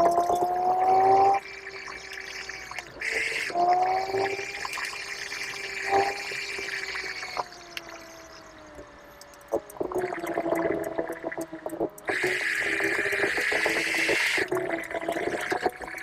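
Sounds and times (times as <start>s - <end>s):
faint clicks: 0.0s - 16.0s.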